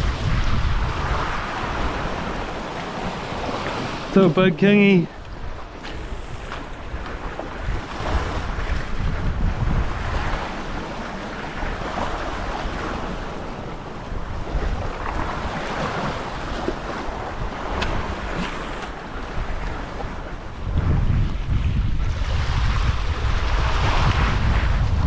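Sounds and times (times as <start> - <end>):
surf washing against rocks: 0.0 - 21.2
wind rumbling on microphone: 0.0 - 25.0.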